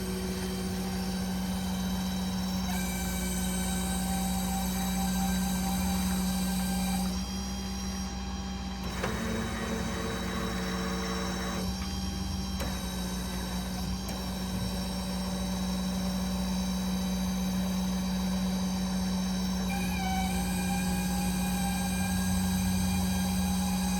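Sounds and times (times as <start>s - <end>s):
machinery hum with high whine: 0.0s - 23.9s.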